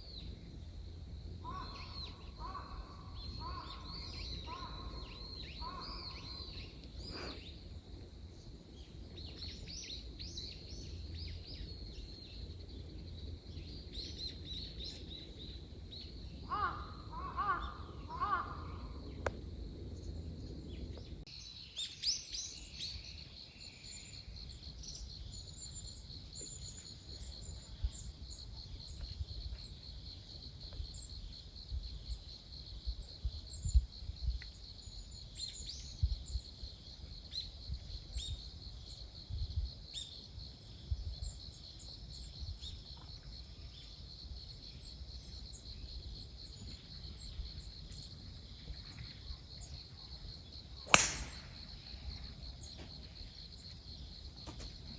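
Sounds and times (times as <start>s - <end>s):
insects trilling: 0.6s - 54.9s.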